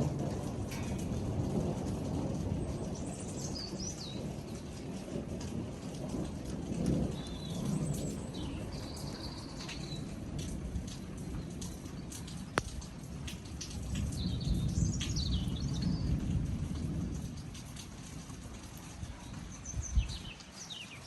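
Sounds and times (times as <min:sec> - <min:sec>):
thunder rumbling: 0:00.0 - 0:20.4
rain falling: 0:00.0 - 0:21.0.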